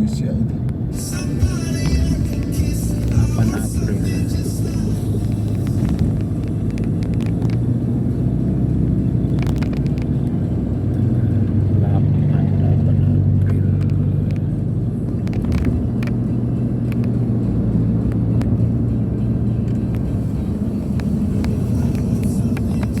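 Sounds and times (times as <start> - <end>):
vehicle engine and road hum: 0.0 - 23.0.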